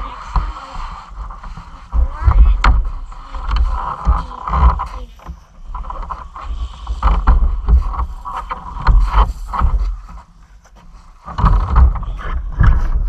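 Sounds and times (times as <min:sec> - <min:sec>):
knocks and rustling: 0:00.0 - 0:13.0
wind rumbling on microphone: 0:00.0 - 0:13.0.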